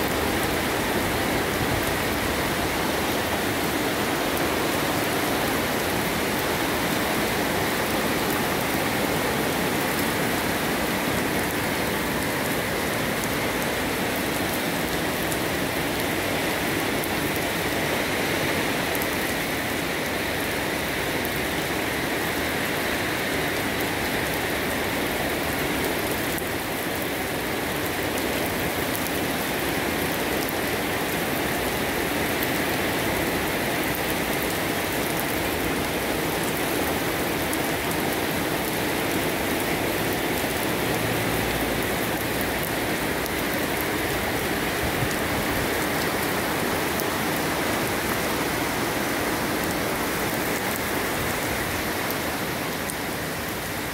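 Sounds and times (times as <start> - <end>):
steady rain on plants and deck: 0.0 - 53.9.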